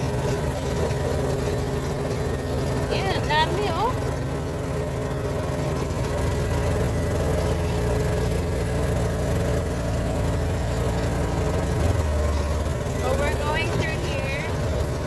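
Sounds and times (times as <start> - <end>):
farm vehicle engine running: 0.0 - 15.0.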